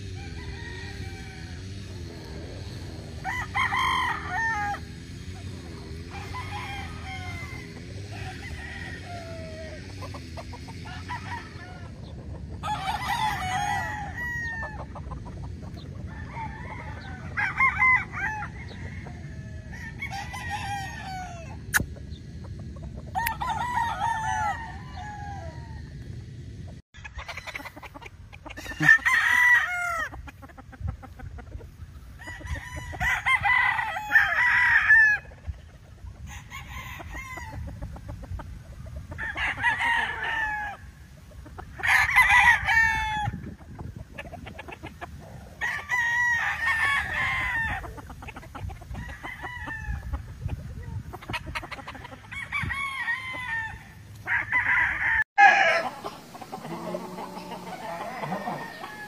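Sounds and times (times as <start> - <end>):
roosters crowing: 0.0 - 59.0.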